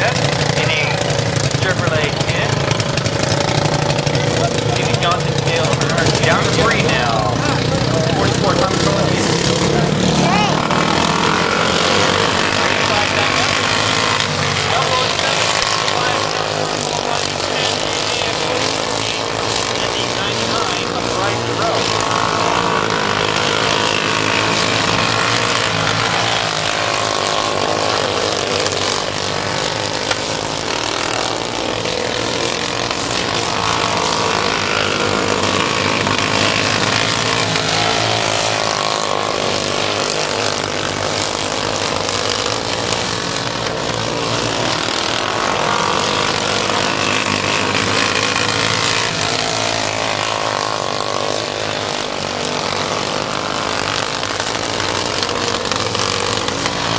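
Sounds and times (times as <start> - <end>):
small race car engines revving: 0.0 - 56.9.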